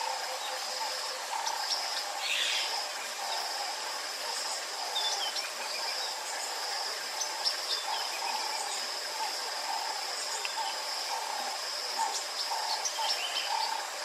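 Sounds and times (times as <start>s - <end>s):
high insect trill: 0.0s - 14.0s
pulsing insect chorus: 0.0s - 14.0s.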